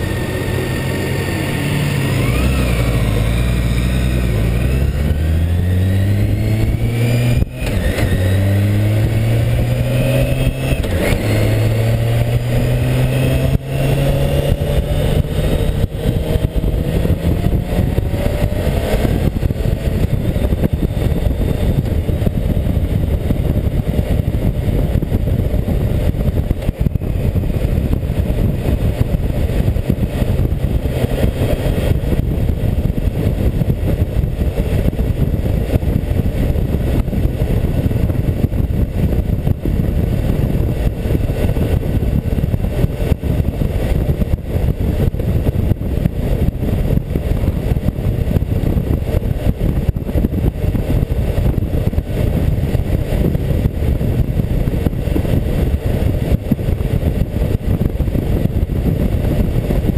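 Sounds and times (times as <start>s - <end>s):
motorcycle engine: 0.0s - 59.9s
road noise: 0.0s - 59.9s
wind buffeting microphone: 0.0s - 59.9s.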